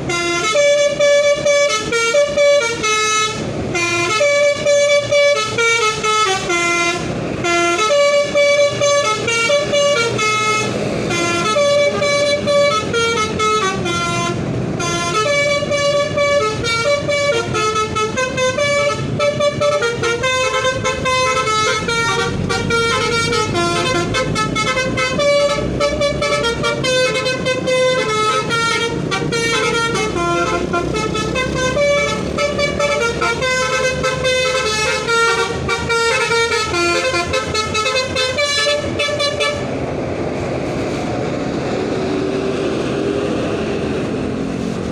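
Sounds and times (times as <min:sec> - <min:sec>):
multi-tone musical vehicle horn: 0:00.0 - 0:39.7.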